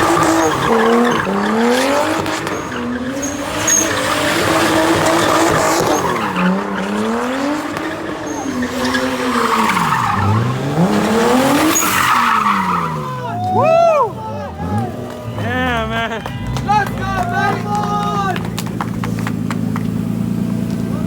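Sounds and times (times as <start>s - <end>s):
car engine revving hard: 0.0s - 21.0s
tyres squealing and skidding: 0.0s - 21.0s.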